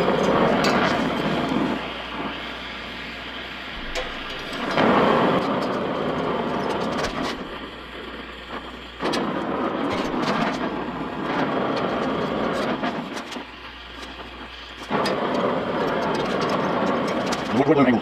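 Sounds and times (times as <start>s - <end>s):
welding crackling hiss: 0.0s - 18.0s.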